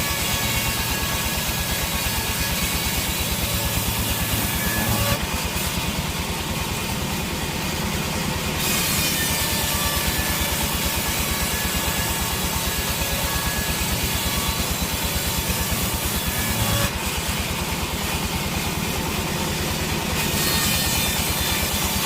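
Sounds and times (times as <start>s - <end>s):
sawmill saw cutting log: 0.0s - 22.0s.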